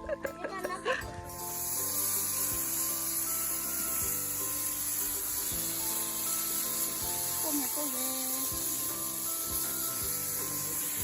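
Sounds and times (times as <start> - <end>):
cheerful background music: 0.0 - 11.0
steady high hiss: 1.0 - 11.0.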